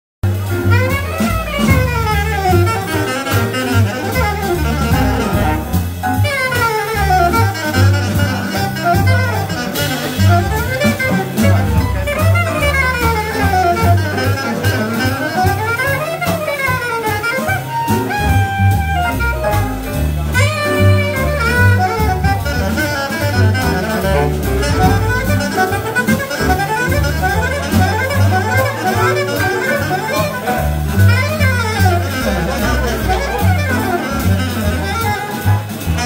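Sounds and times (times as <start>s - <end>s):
walking double bass: 0.2s - 36.0s
saxophone playing quick runs: 0.4s - 36.0s.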